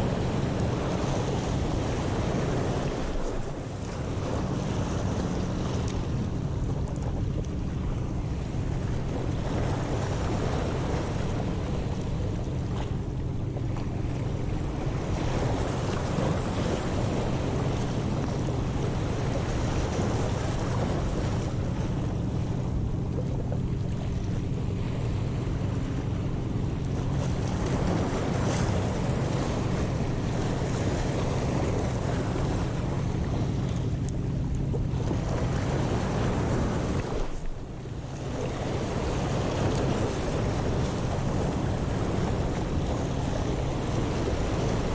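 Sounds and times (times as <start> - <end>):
sea waves breaking on rocks: 0.0 - 44.9
wind buffeting microphone: 0.0 - 44.9.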